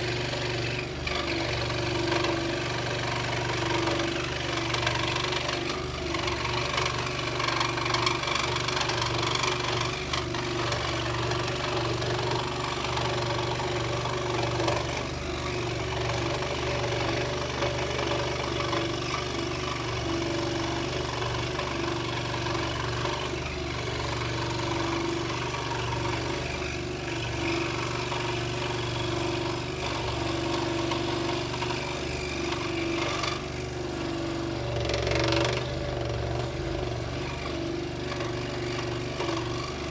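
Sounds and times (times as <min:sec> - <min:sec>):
scroll saw cutting: 0:00.0 - 0:39.9.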